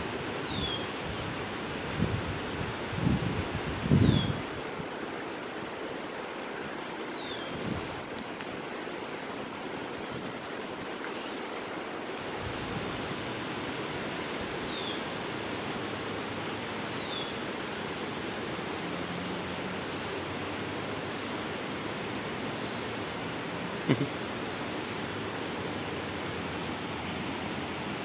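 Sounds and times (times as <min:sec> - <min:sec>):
creek running over rocks: 0:00.0 - 0:28.0.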